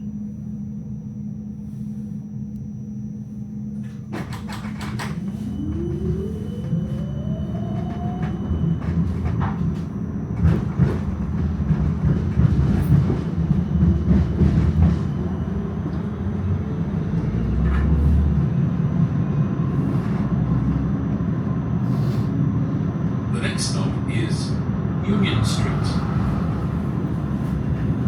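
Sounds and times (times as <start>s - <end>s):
tram rumbling along rails: 0.0s - 28.0s.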